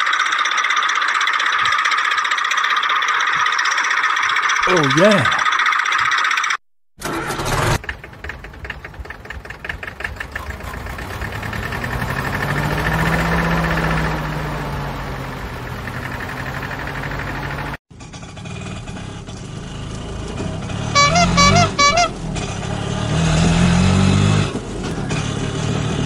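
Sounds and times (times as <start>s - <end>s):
engine chugging: 0.0s - 26.0s.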